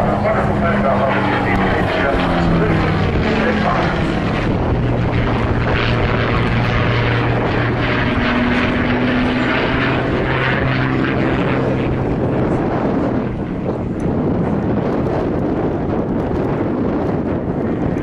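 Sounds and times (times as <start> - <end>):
propeller aircraft engine droning: 0.0 - 18.0.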